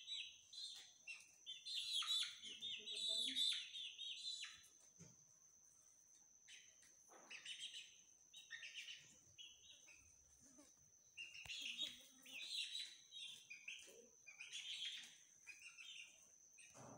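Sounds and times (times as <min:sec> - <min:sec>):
chicks peeping: 0:00.0 - 0:05.2, 0:06.0 - 0:16.9.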